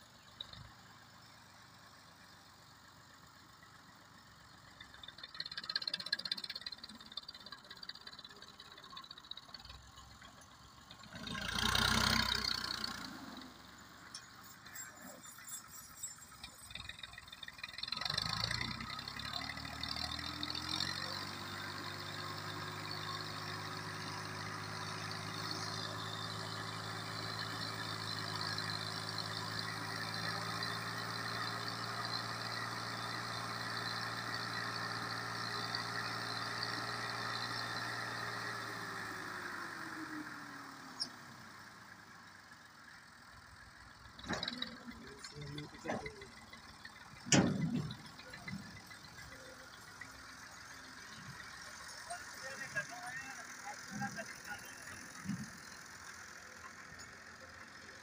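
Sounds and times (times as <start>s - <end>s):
tractor diesel engine revving: 4.7s - 58.0s.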